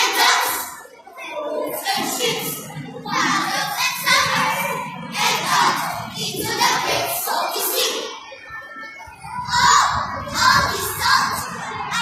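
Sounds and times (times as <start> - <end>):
children reciting in unison: 0.0 - 12.0.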